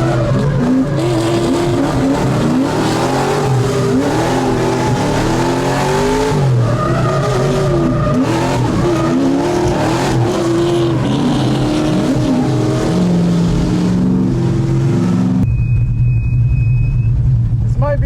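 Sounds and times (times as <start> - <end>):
car engine revving: 0.0 - 15.5.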